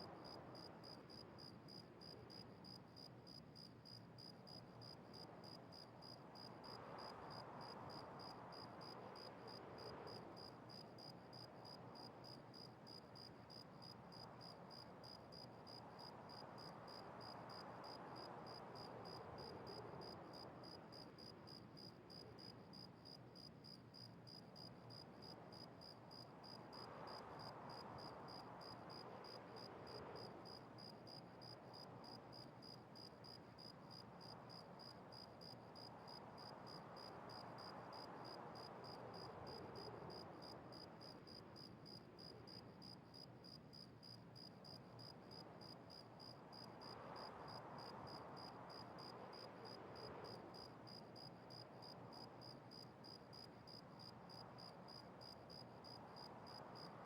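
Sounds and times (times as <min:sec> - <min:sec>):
insect chirping: 0:07.6 - 0:56.9.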